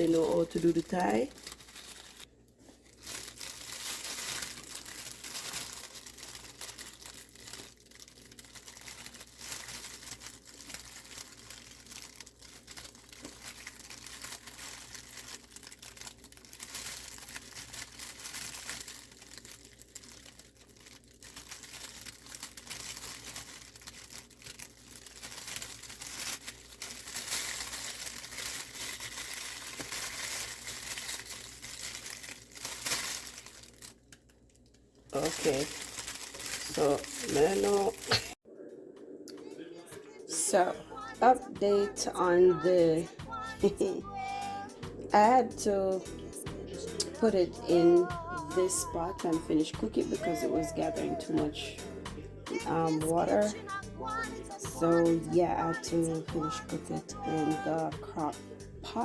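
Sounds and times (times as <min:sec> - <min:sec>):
plastic bag crinkling: 0:00.0 - 0:38.4, 0:39.0 - 0:59.0.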